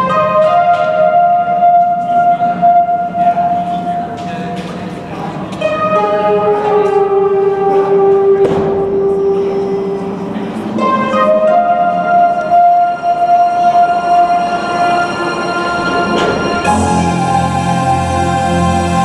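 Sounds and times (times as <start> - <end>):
slow melody over arena speakers: 0.0 - 19.0.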